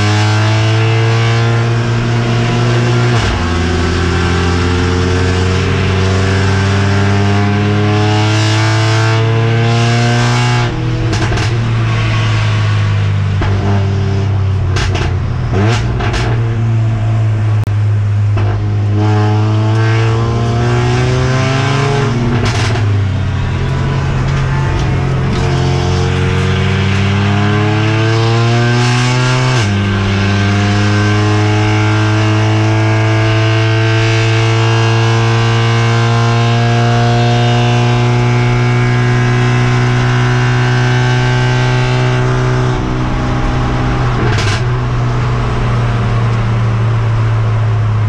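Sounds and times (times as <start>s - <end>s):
car engine accelerating: 0.0s - 48.0s
low drone: 0.0s - 48.0s.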